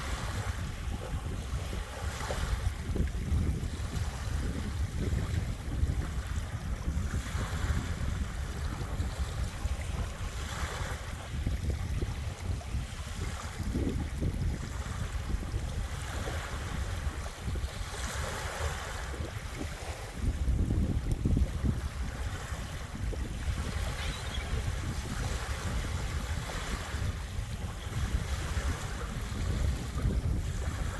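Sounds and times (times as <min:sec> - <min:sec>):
small waves washing onto beach: 0:00.0 - 0:30.9
wind rumble on microphone: 0:00.0 - 0:30.9.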